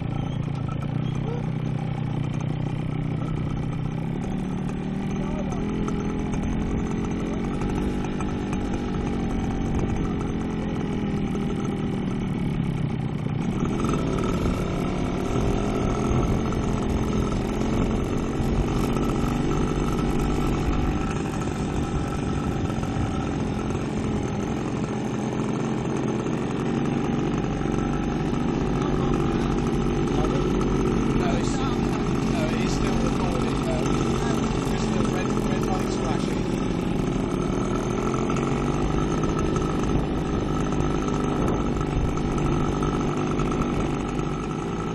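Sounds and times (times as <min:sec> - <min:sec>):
two-stroke motorcycle engine running: 0:00.0 - 0:44.9.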